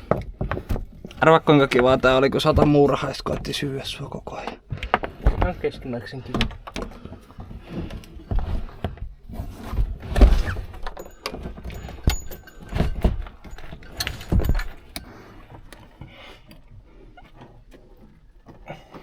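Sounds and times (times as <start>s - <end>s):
knocks and rattling of parts: 0.0s - 19.0s.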